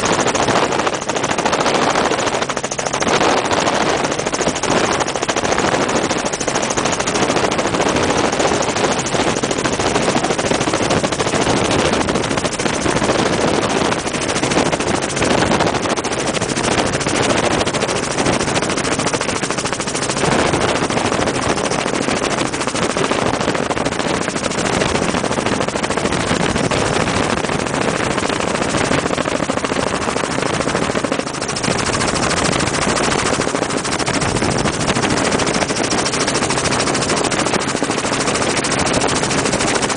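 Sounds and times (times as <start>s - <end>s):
helicopter engine and rotor: 0.0s - 39.9s
wind rush: 0.0s - 39.9s.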